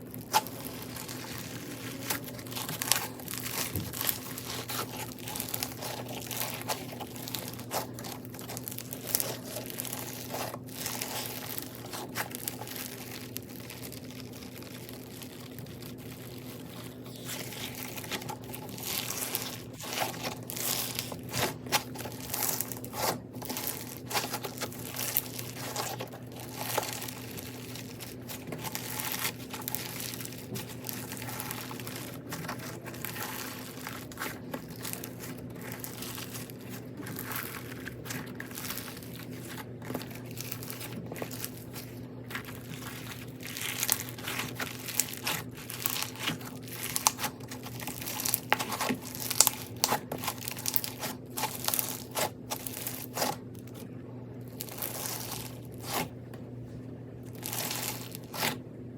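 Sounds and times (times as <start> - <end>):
crunchy slime crackling: 0.0 - 58.9
steady low hum: 0.0 - 58.9.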